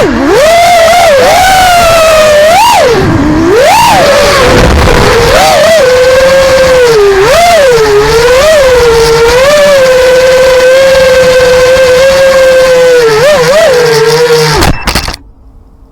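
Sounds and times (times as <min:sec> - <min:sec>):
quadcopter motors whining: 0:00.0 - 0:15.2.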